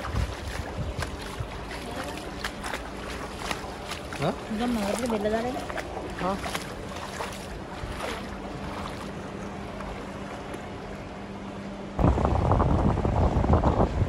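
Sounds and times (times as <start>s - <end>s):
wind buffeting microphone: 0.0s - 10.3s, 12.0s - 14.0s
low hum: 0.0s - 14.0s.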